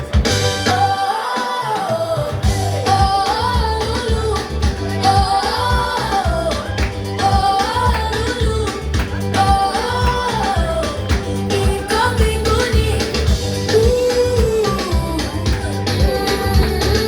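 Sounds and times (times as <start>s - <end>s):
upbeat song with drums and bass: 0.0s - 17.0s.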